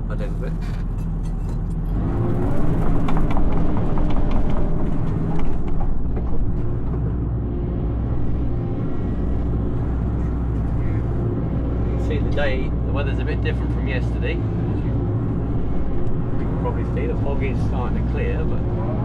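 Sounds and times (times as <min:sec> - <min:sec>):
excavator diesel engine hum: 0:00.0 - 0:19.0.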